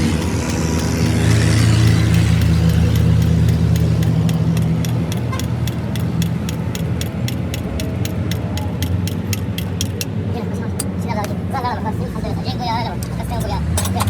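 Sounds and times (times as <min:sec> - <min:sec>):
quick regular ticking: 0:00.0 - 0:11.4
vehicle engine running: 0:00.0 - 0:14.0.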